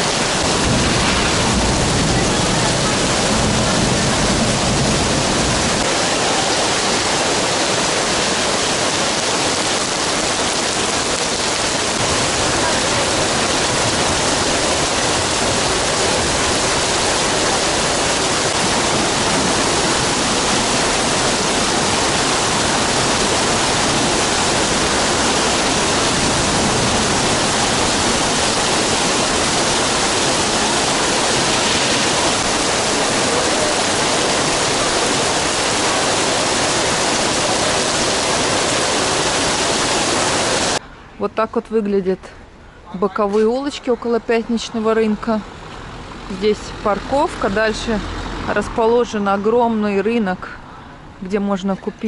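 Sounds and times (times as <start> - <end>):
heavy rain on paving: 0.0 - 40.8, 45.2 - 48.7.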